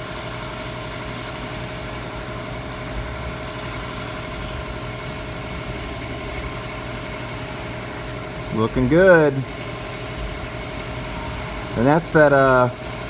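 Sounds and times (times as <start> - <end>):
machining center humming: 0.0 - 13.0.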